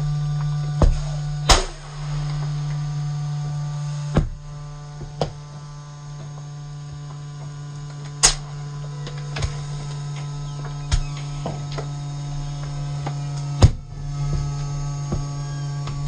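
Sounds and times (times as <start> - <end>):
compactor drive humming: 0.0 - 16.0.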